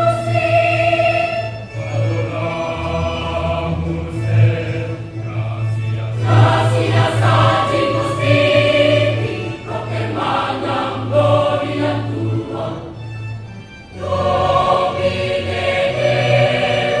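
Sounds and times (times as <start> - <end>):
choir singing: 0.0 - 13.1, 13.9 - 17.0.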